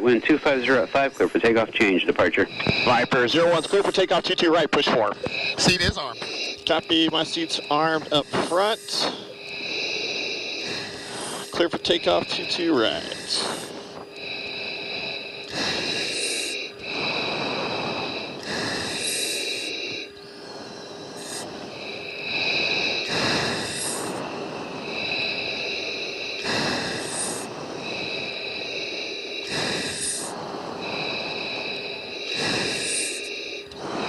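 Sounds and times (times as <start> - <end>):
faint steady hum: 0.0 - 34.0
hissing breaths into oxygen mask: 0.0 - 34.0.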